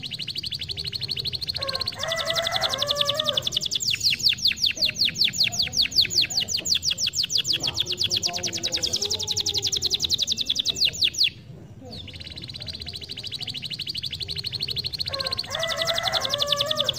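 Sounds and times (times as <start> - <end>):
canary singing trills: 0.0 - 16.9.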